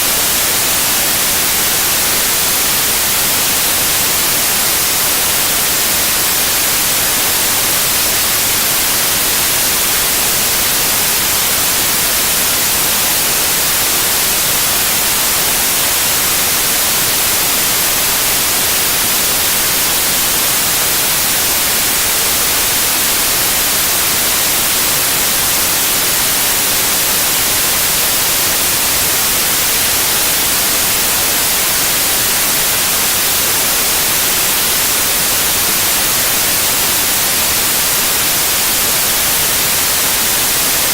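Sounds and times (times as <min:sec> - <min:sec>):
loud white noise hiss: 0:00.0 - 0:40.9.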